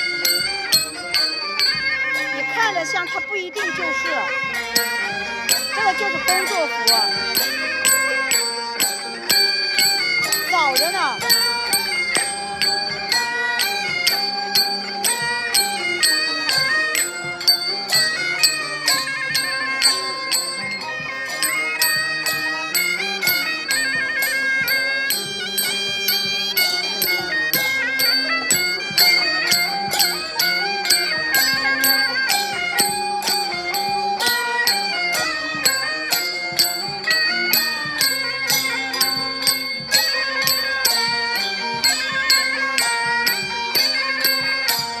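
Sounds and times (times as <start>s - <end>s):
instrumental music with steady beat: 0.0s - 45.0s.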